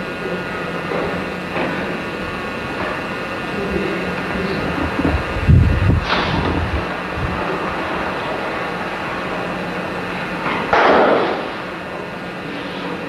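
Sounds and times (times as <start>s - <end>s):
recording hiss and hum: 0.0s - 13.0s
rush of noise: 0.0s - 13.0s.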